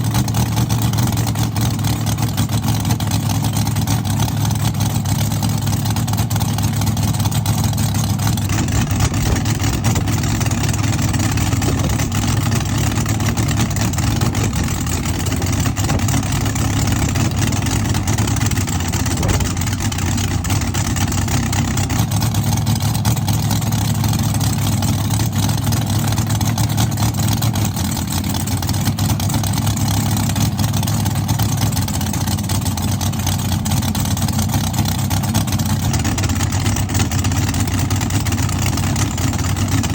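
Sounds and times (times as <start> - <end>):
loud car engine idling: 0.0 - 39.9.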